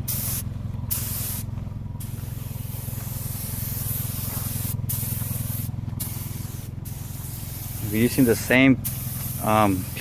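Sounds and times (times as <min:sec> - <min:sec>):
air compressor humming: 0:00.0 - 0:10.0
paint spray gun hissing: 0:00.0 - 0:10.0.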